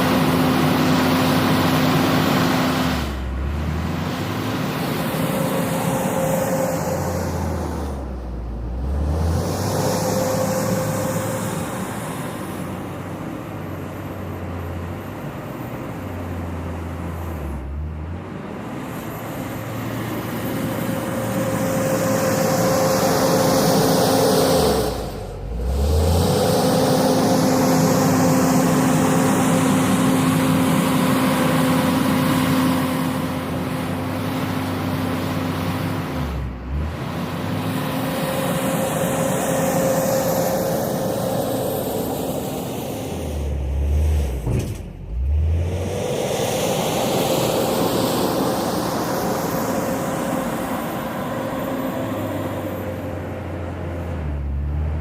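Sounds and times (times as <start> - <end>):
wheel loader diesel engine working: 0.0 - 55.0.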